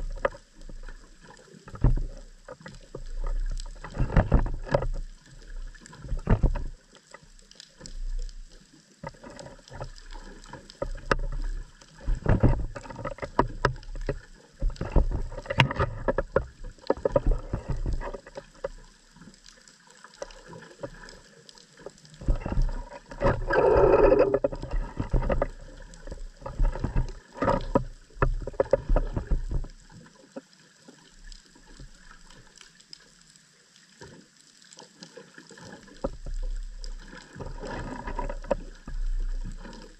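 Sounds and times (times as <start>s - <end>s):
water rushing underwater: 0.0s - 30.2s, 35.2s - 39.9s
underwater knocks and crackles: 0.0s - 39.9s.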